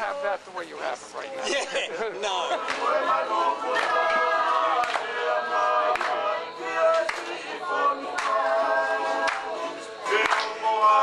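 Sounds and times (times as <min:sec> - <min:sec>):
group singing: 0:01.3 - 0:11.0.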